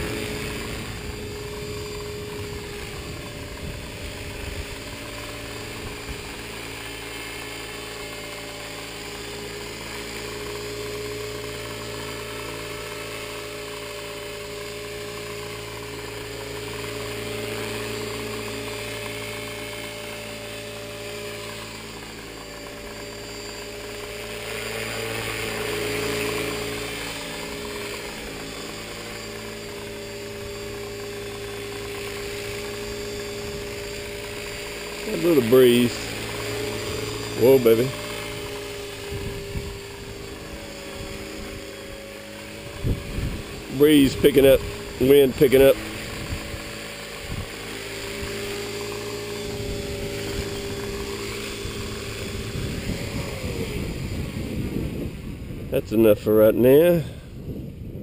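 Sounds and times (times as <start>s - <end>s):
rc helicopter motor whine and buzz: 0.0s - 58.0s.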